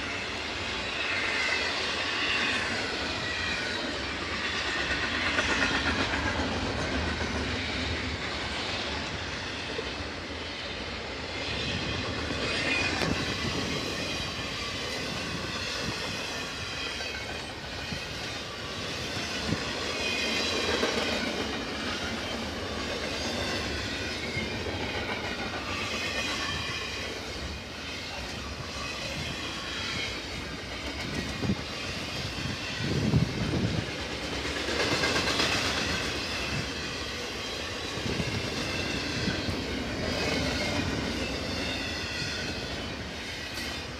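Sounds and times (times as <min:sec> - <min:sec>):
train wheels clattering on rails: 0:00.0 - 0:43.9.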